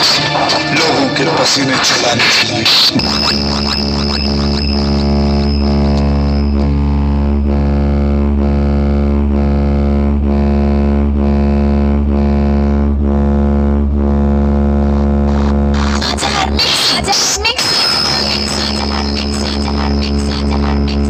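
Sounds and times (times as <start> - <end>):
loud electronic music: 0.0 - 21.0.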